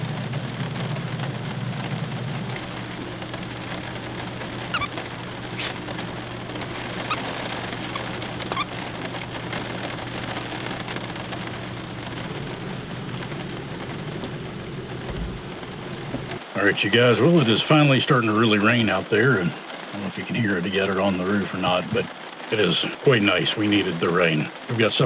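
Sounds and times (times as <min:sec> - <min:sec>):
rain on fiberglass roof: 0:00.0 - 0:25.0
raindrops ticking: 0:00.0 - 0:25.0.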